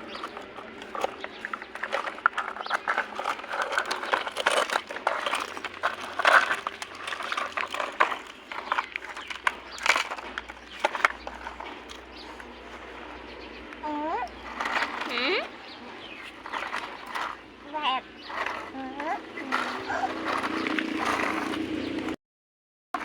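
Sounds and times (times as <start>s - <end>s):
rustling and crinkling: 0.0s - 22.2s.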